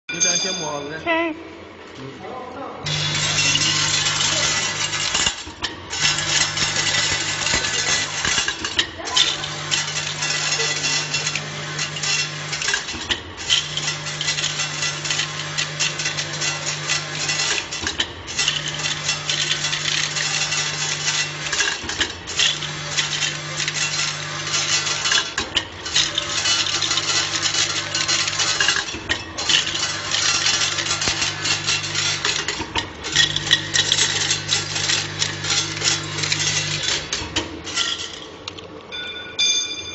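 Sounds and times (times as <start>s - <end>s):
machine hum: 0.2s - 39.9s
pellets clattering in feeder: 2.9s - 38.5s.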